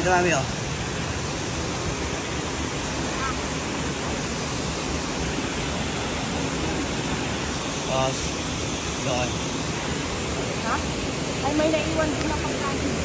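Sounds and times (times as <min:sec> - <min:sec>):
waterfall roaring onto rocks: 0:00.0 - 0:13.0.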